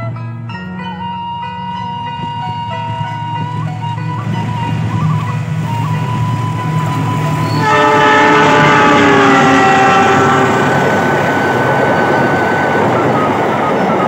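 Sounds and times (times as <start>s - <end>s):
passing train noise: 0.0s - 14.0s
locomotive horn blast: 0.8s - 14.0s.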